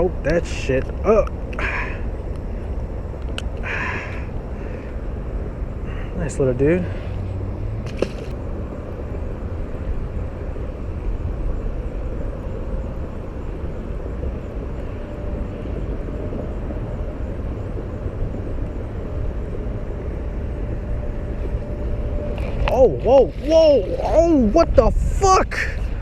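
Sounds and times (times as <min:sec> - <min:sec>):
faint hum: 0:00.0 - 0:26.0
outdoor background rumble: 0:00.0 - 0:26.0.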